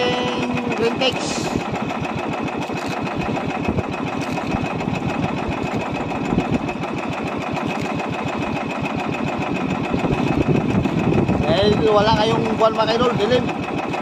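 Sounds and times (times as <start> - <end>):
small boat engine pulsing: 0.0 - 14.0.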